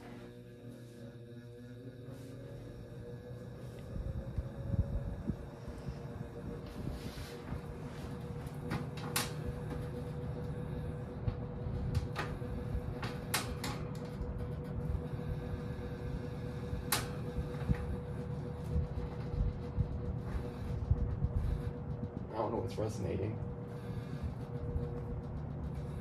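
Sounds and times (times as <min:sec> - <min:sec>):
fan motor hum: 0:00.0 - 0:26.0.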